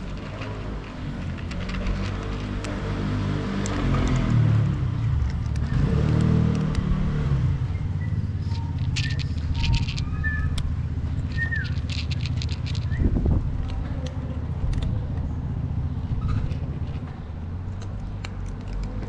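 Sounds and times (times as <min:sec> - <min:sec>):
cat crunching dry kibble: 0:00.0 - 0:06.9, 0:08.4 - 0:19.0
vehicle engine rumbling past: 0:00.0 - 0:18.2.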